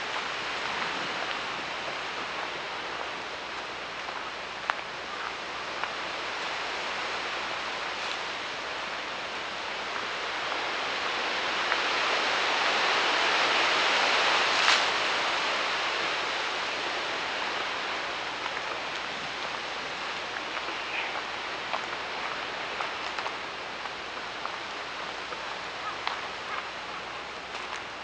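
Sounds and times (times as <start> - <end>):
wind rushing through trees: 0.0 - 28.0.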